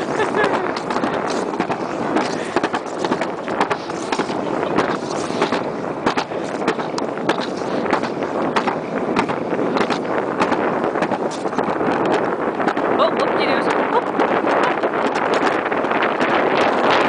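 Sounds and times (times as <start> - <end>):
sled rumbling down track: 0.0 - 17.0.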